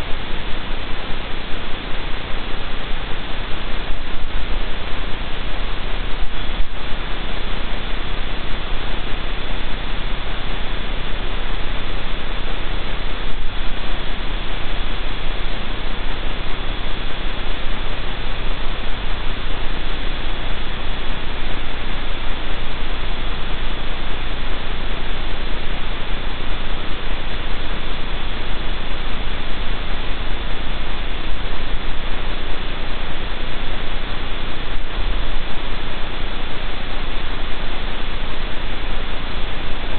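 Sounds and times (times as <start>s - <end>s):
loud hiss and static: 0.0s - 39.9s
low mains hum: 0.0s - 39.9s.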